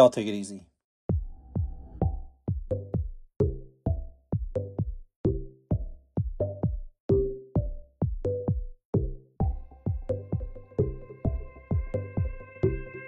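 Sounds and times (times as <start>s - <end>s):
electronic music with drum-machine beat: 1.1s - 13.0s.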